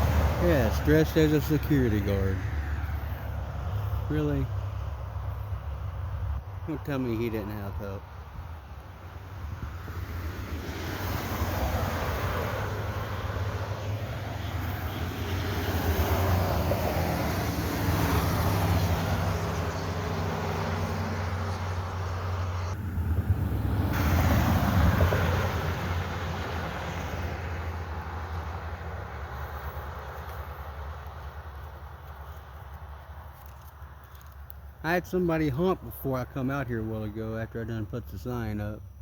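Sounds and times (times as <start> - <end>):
low steady engine hum: 0.0 - 39.0
road traffic passing: 0.0 - 39.0.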